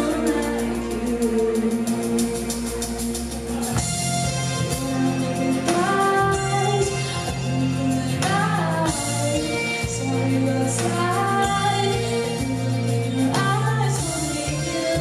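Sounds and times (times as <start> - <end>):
woman singing: 0.0 - 2.6, 4.7 - 15.0
live pop band: 0.0 - 15.0.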